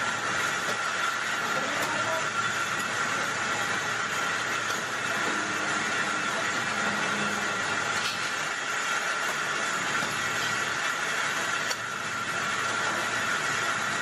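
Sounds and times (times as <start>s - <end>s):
lathe whirring: 0.0s - 14.0s.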